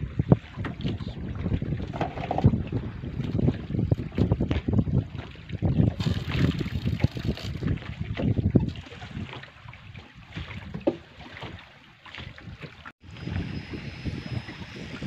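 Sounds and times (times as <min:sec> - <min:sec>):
wind buffeting microphone: 0:00.0 - 0:11.6, 0:12.3 - 0:15.0.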